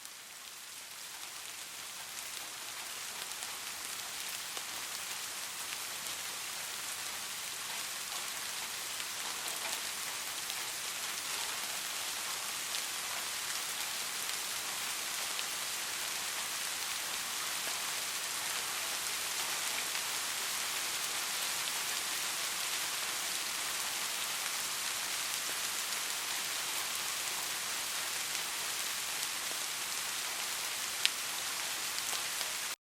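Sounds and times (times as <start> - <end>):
rain drops pattering: 0.0 - 32.8.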